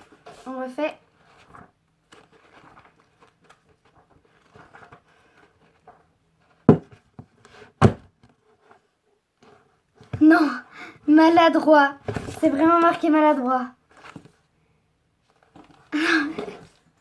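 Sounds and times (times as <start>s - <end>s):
book pages rustling: 0.0s - 10.5s, 11.4s - 14.6s, 15.2s - 17.0s.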